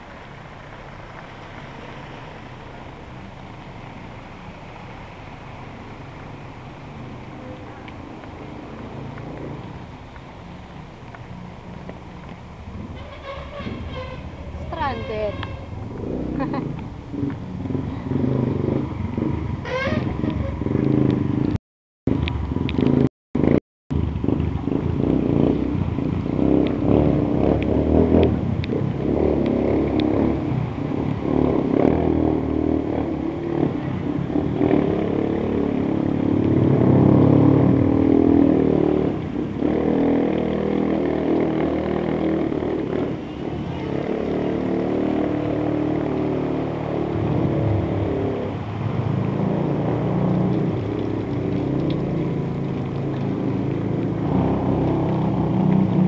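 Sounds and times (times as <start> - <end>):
car and motorcycle engines: 0.0 - 56.0
tyres pushing through floodwater: 0.0 - 56.0.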